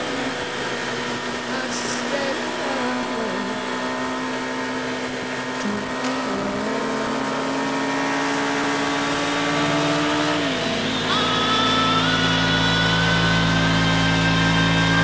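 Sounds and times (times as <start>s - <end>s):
motorcycle engine holding revs: 0.0s - 15.0s.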